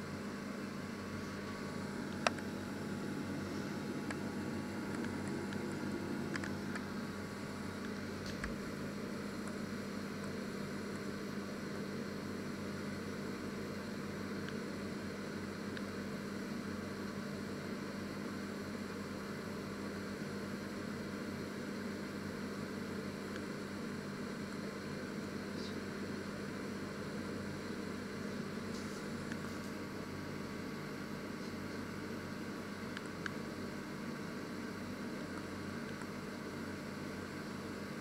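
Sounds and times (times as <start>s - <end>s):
fan noise: 0.0s - 38.0s
microwave oven humming: 0.0s - 38.0s.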